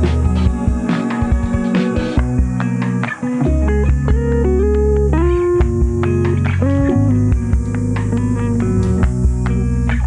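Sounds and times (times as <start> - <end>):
background music with bass and drums: 0.0 - 10.0.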